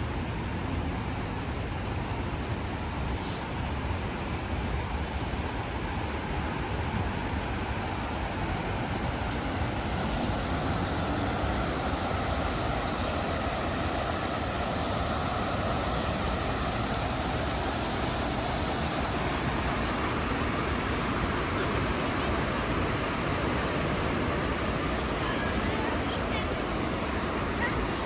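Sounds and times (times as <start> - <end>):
passing traffic hiss: 0.0 - 28.0.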